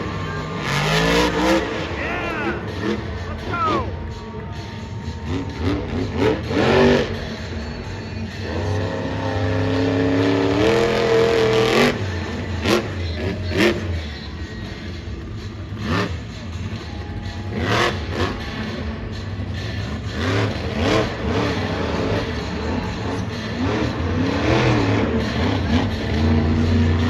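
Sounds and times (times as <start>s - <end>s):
monster truck engine revving: 0.0s - 4.0s, 5.2s - 27.0s.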